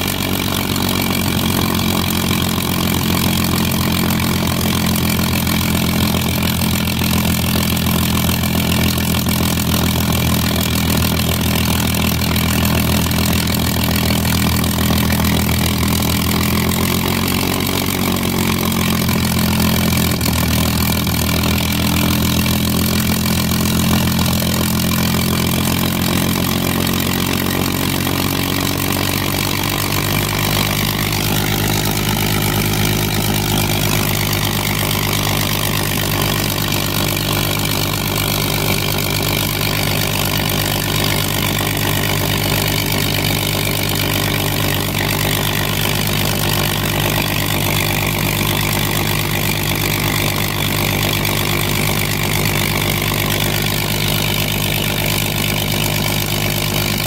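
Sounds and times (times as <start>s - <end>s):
aircraft piston engine running: 0.0s - 57.0s.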